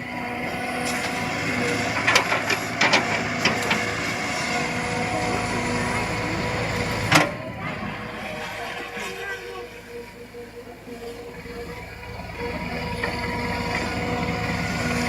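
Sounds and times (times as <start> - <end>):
backhoe engine running with whine: 0.0 - 15.0.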